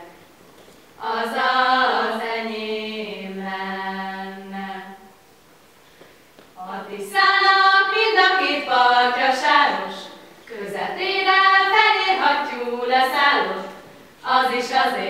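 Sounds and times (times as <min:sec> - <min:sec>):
women singing in unison: 0:01.0 - 0:05.1, 0:06.6 - 0:15.0.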